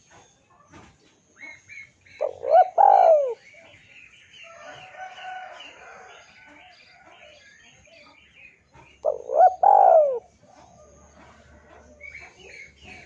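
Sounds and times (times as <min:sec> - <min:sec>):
small birds chirping: 0:00.0 - 0:13.0
birds cooing: 0:01.4 - 0:03.8, 0:04.4 - 0:13.0.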